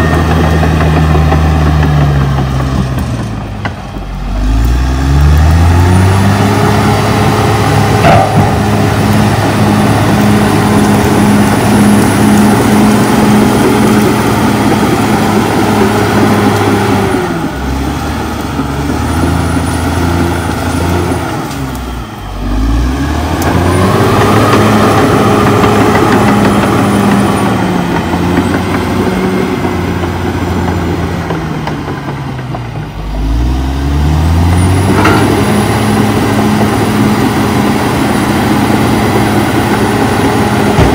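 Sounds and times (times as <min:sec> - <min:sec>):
bulldozer diesel engine working: 0:00.0 - 0:40.9.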